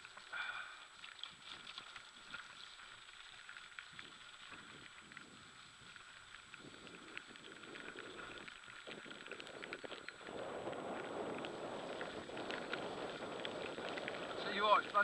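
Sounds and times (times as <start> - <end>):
bike tyres crackling on gravel: 0.0 - 15.0.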